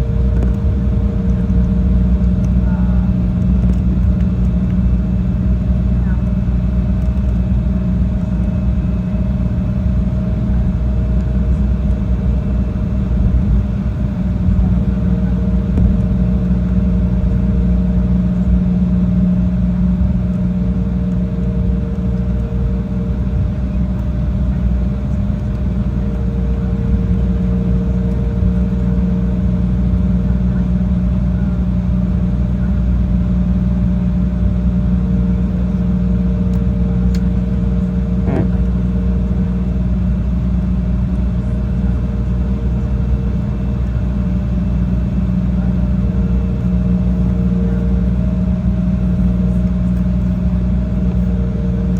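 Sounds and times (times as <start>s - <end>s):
faint even whine: 0.0s - 51.9s
jet engine and airflow rumble: 0.0s - 51.9s.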